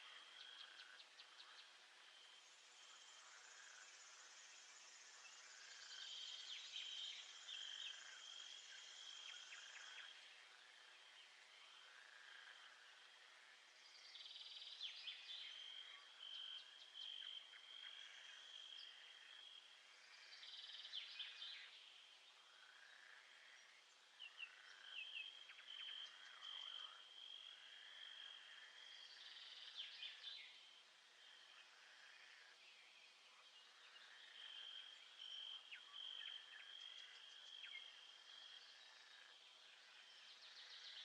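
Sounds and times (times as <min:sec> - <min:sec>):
frogs chirping: 0:00.0 - 0:41.0.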